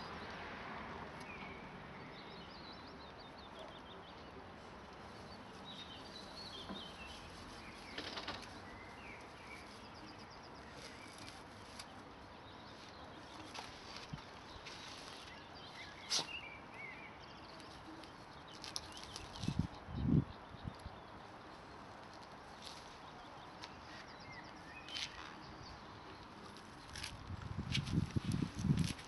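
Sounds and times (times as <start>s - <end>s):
outdoor background hiss: 0.0s - 29.0s
small birds chirping: 1.2s - 29.0s.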